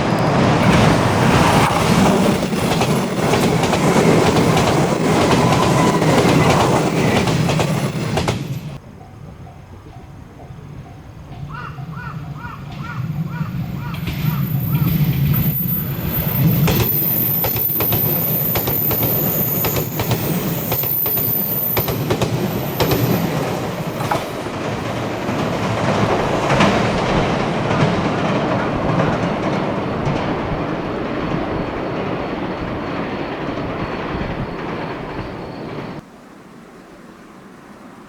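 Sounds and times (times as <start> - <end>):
train wheels clicking over joints: 0.0 - 8.8, 9.8 - 36.1
train rumble: 0.0 - 38.0.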